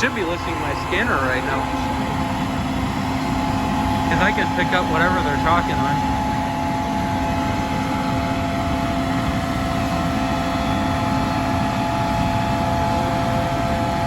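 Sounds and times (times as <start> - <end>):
constant whining tones: 0.0 - 14.0
engine droning: 0.0 - 14.0.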